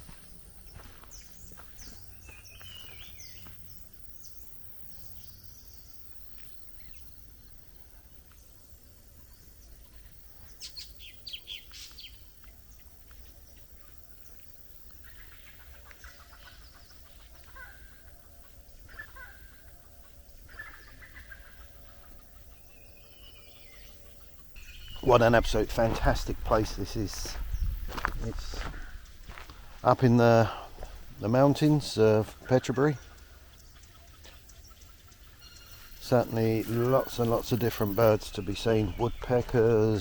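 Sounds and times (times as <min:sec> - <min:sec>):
birds calling and chirping: 0:00.0 - 0:40.0.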